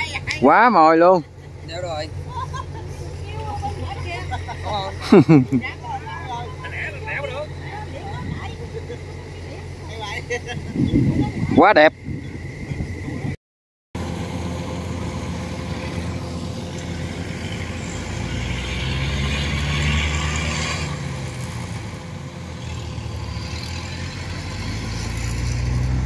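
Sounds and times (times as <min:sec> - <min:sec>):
combine harvester engines running: 0:00.0 - 0:13.4, 0:14.0 - 0:26.0.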